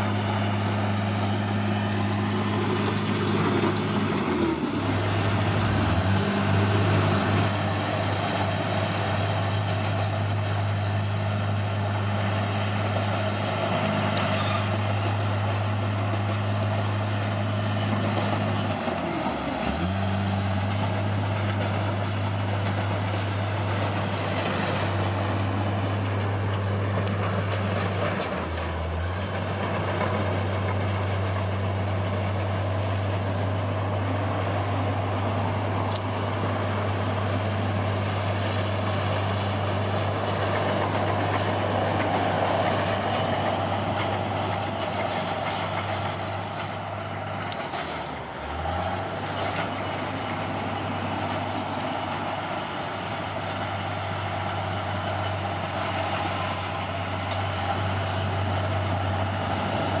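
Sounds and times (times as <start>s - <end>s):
bulldozer diesel engine running: 0.0s - 60.0s.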